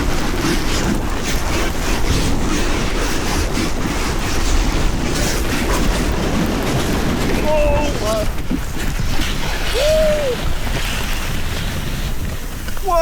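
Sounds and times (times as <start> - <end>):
wind buffeting microphone: 0.0 - 13.0
wooden board sliding over gravel: 0.0 - 13.0.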